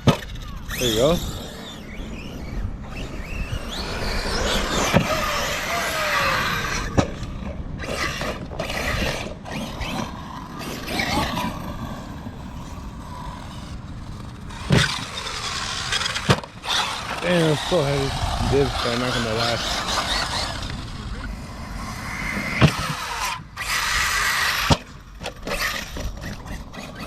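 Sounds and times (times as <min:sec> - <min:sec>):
electric motor whining: 0:00.0 - 0:27.0
steady rush of noise: 0:00.0 - 0:27.0.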